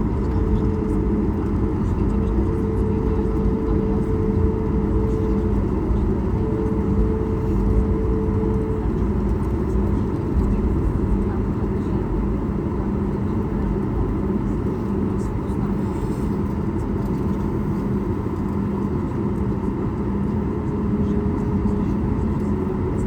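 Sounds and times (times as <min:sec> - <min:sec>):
jet engine rumble in cabin: 0:00.0 - 0:23.0.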